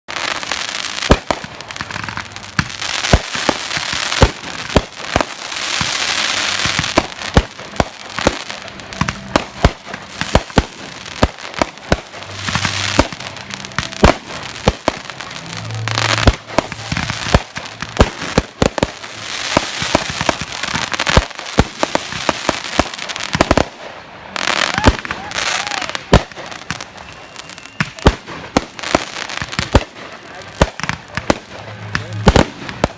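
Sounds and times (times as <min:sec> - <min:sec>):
firework hissing: 0:00.1 - 0:32.9.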